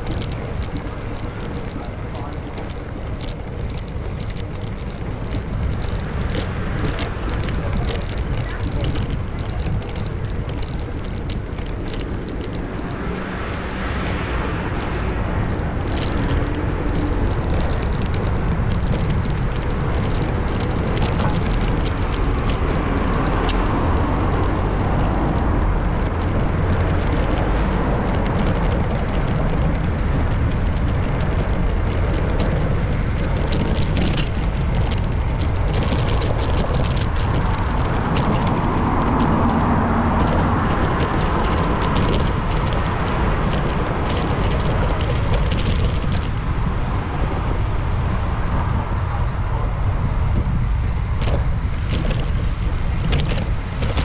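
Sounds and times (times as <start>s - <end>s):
road traffic passing: 0.0s - 54.0s
wind rumble on microphone: 0.0s - 54.0s.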